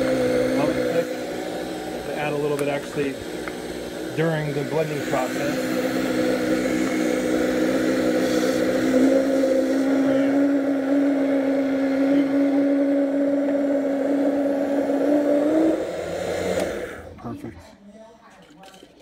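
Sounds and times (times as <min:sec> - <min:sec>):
blender motor running: 0:00.0 - 0:17.5.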